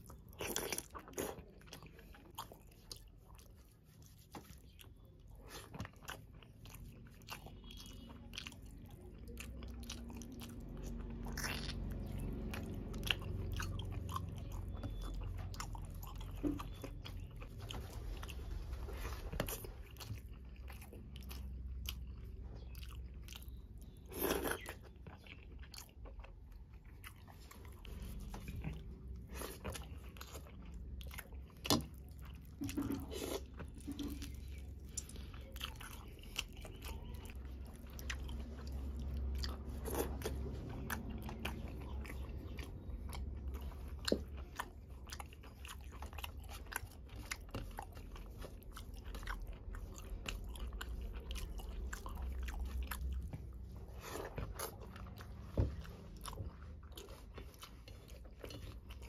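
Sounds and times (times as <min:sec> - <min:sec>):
chewing and mouth clicks: 0:00.0 - 0:59.0.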